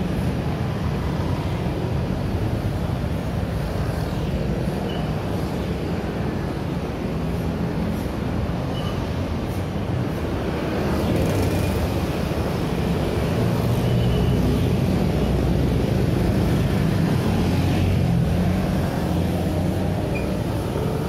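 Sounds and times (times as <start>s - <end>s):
traffic passing close by: 0.0s - 21.0s.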